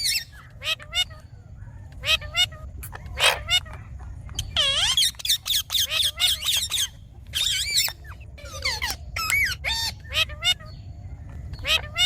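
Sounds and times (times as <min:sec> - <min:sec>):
parrot squawking and chirping: 0:00.0 - 0:12.0.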